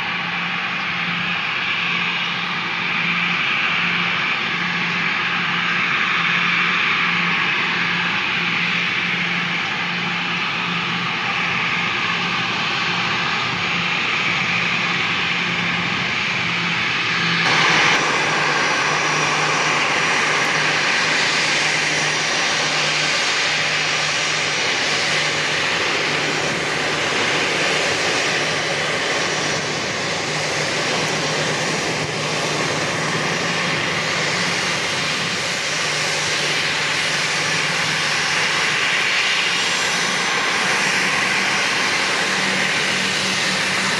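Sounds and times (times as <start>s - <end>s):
jet engines humming: 0.0s - 43.9s.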